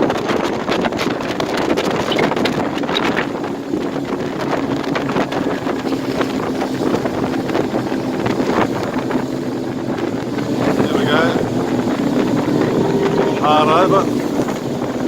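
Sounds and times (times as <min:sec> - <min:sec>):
outboard motors running: 0:00.0 - 0:15.0
wind buffeting microphone: 0:00.0 - 0:15.0.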